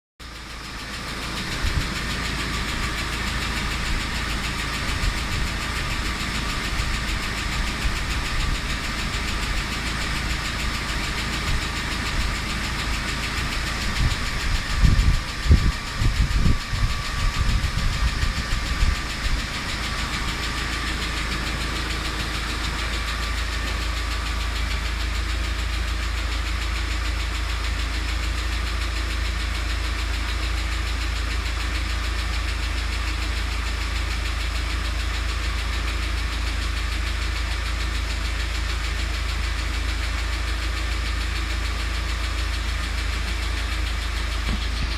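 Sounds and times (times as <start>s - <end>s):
engine idling with ticking knock: 0.2s - 44.9s.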